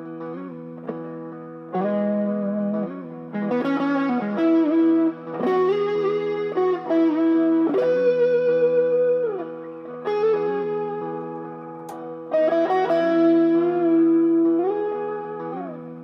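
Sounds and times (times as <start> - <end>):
electric guitar through an amp: 0.0 - 16.0.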